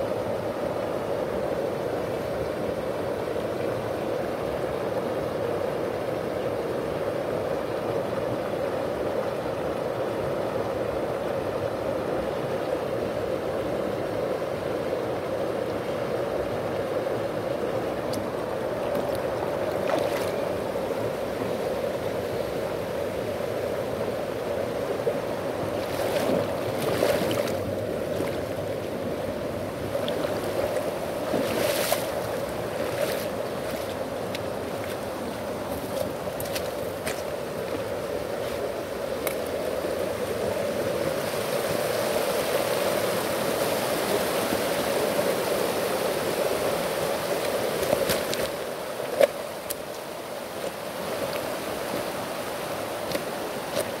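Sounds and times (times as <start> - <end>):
stream water flowing over pebbles: 0.0 - 54.0.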